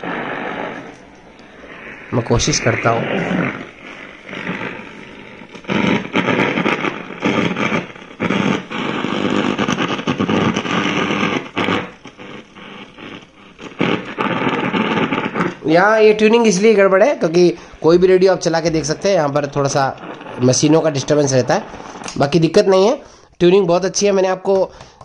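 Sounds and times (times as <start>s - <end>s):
radio static hissing and crackling: 0.0s - 25.0s.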